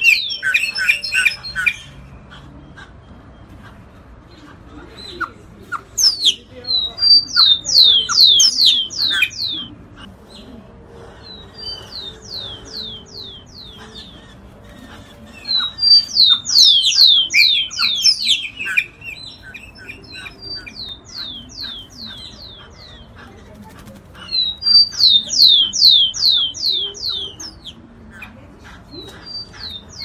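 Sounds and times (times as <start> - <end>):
bird chattering notes: 0.0 - 10.4, 11.2 - 30.0.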